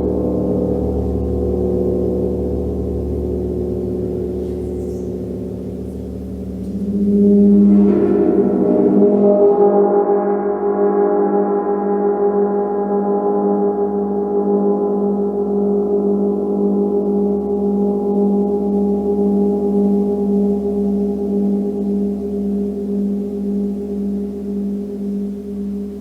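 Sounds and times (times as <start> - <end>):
gong ringing: 0.0 - 26.0.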